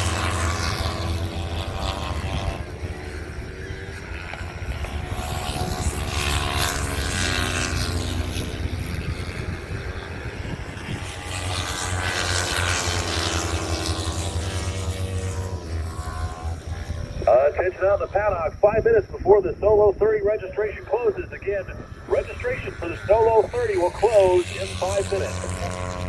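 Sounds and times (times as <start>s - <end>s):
racing motorcycles passing: 0.0s - 19.2s, 20.6s - 26.0s.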